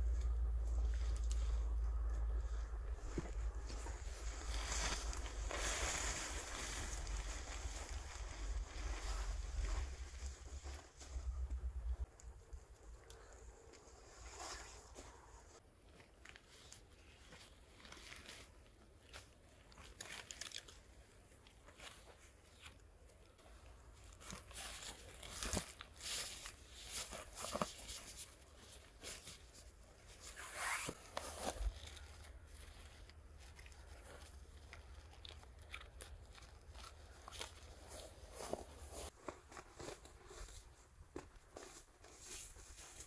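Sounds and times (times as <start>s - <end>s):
crunching of snow and pine needles: 0.0s - 12.0s, 13.1s - 43.0s
tarp fabric rustling and crinkling: 0.0s - 12.0s, 13.2s - 43.0s.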